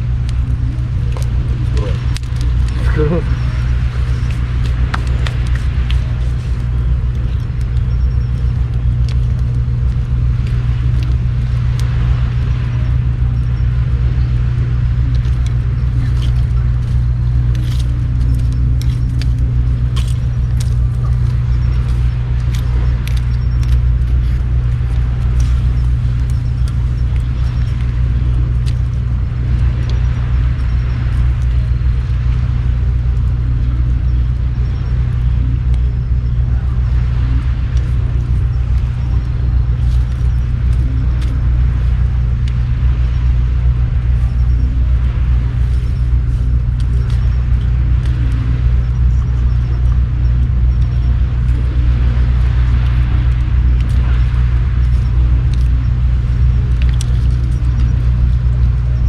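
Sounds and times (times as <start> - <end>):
campfire crackles: 0.0 - 59.0
low rumble: 0.0 - 59.0.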